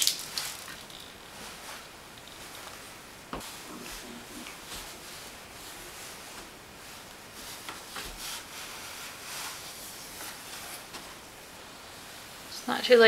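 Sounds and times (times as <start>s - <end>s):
soft rustling: 0.3s - 13.0s.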